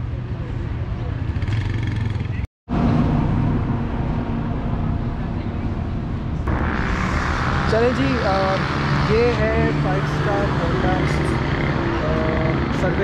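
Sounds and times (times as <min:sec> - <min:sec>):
street traffic: 0:00.0 - 0:13.0
motorcycle engines running: 0:01.0 - 0:13.0.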